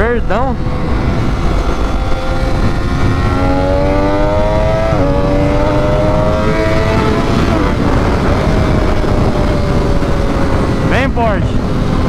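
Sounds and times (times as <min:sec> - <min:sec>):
motorcycle engine accelerating: 0:00.0 - 0:12.0
wind noise: 0:00.0 - 0:12.0.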